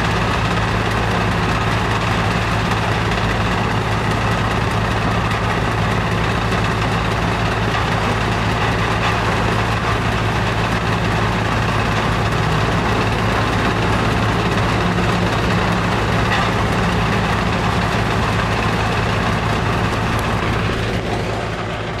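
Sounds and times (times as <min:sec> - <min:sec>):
heavy machinery rumbling: 0:00.0 - 0:22.0.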